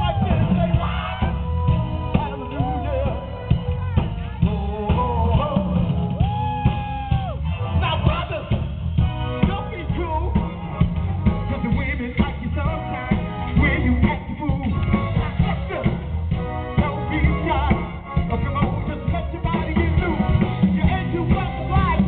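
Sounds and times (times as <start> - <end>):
drum kit beat: 0.0 - 22.0
heavy bass: 0.0 - 22.0
live band through speakers: 0.0 - 22.0
man singing: 0.0 - 22.0.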